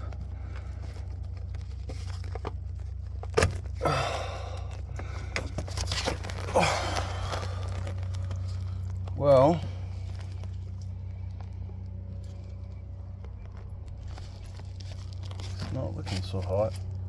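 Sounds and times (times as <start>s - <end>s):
rustling and scraping: 0.0s - 17.0s
steady low hum: 0.0s - 17.0s.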